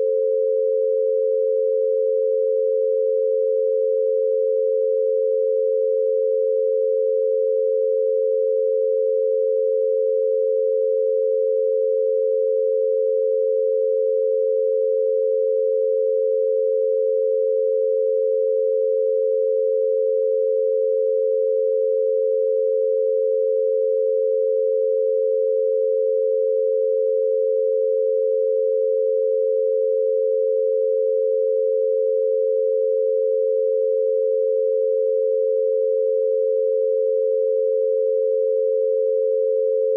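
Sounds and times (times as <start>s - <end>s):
two steady pure tones: 0.0s - 39.9s.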